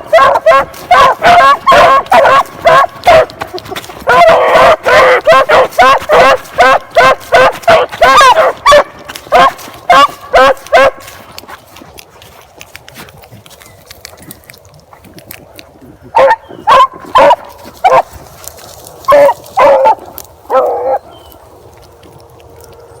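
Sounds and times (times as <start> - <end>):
hounds baying: 0.0 - 14.4, 15.5 - 23.0.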